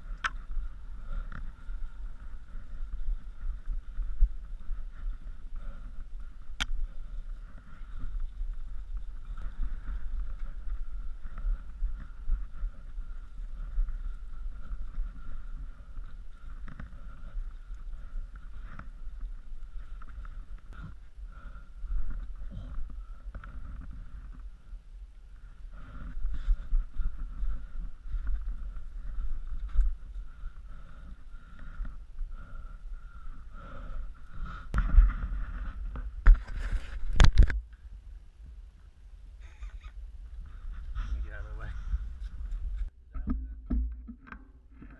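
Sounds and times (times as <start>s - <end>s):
wind and tyres rumbling: 0.0s - 44.9s.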